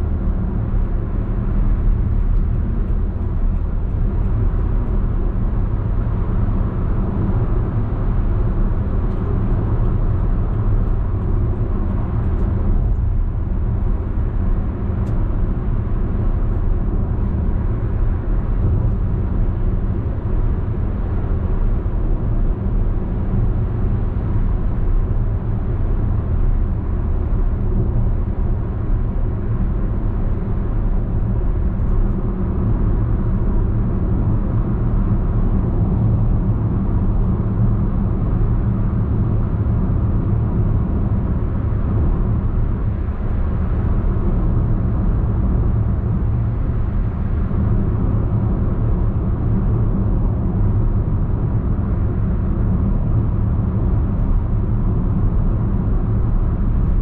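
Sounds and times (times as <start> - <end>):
car cabin road noise: 0.0 - 57.0.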